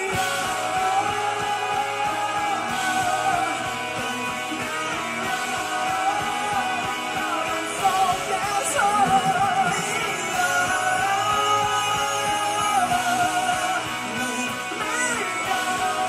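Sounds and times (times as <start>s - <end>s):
bass guitar: 0.0s - 16.0s
drums: 0.0s - 16.0s
electric guitar melody: 0.0s - 16.0s.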